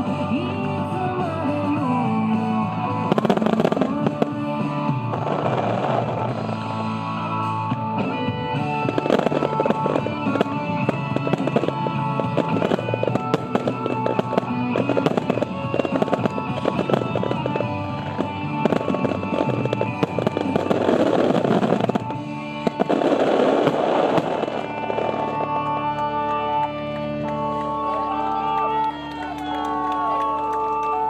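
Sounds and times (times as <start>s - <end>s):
fireworks crackling: 0.0s - 31.0s
music playing: 0.0s - 31.0s.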